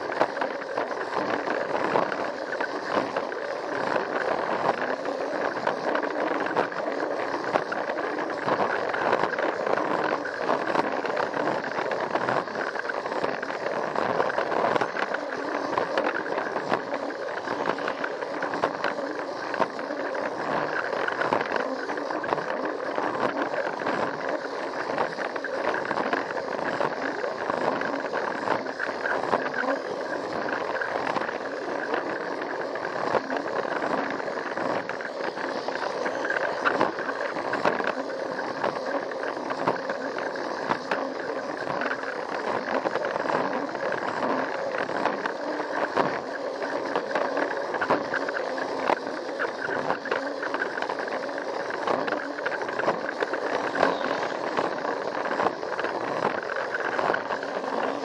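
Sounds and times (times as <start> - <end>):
toy train motor whirring: 0.0 - 58.0.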